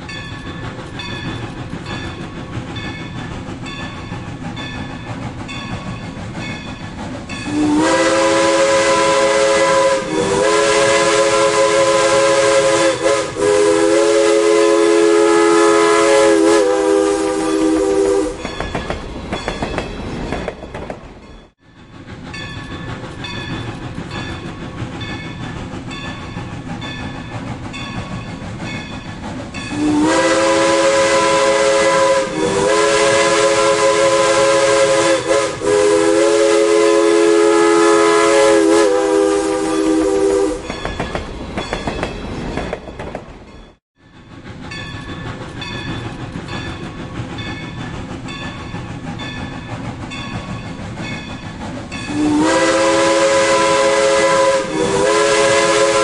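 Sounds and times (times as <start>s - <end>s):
steam locomotive chime whistle: 0.0s - 19.7s, 22.3s - 42.1s, 43.7s - 56.0s.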